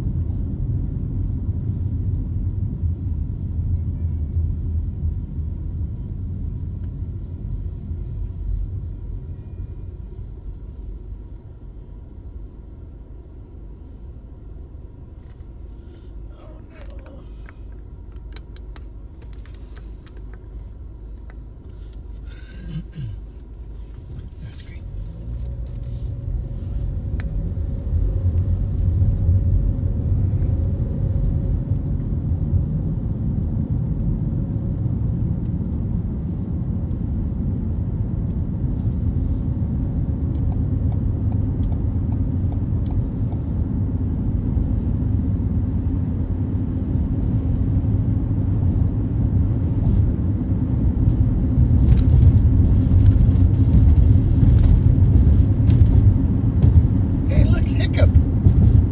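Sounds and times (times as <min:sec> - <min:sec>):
vehicle rumble: 0:00.0 - 0:58.9.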